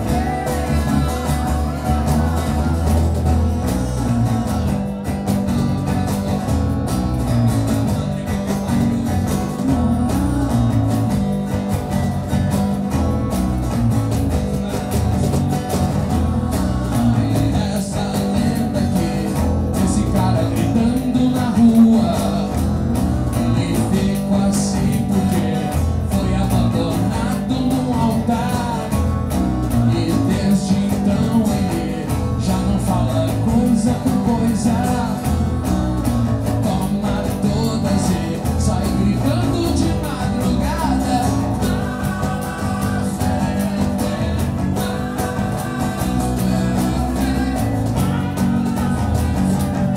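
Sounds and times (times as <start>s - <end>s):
man singing lead vocal: 0.0s - 6.5s, 7.2s - 49.9s
acoustic guitar strumming: 0.0s - 49.9s
cajon beat: 0.0s - 49.9s.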